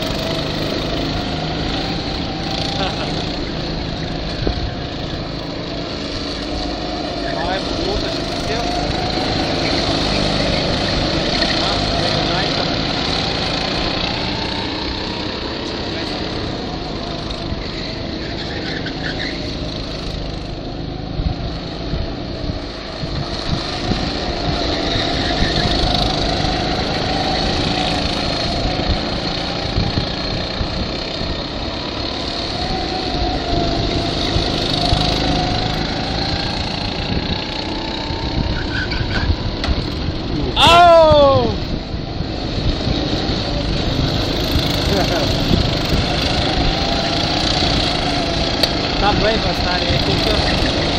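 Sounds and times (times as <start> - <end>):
go-kart engines running: 0.0 - 50.9.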